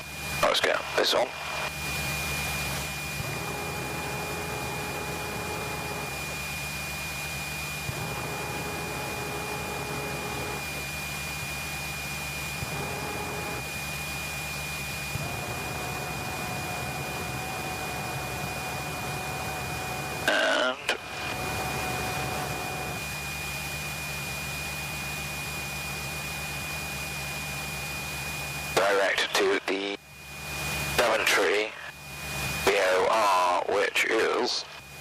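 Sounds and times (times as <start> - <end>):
aircraft engine drone: 0.0 - 35.0
faint humming tones: 0.0 - 35.0.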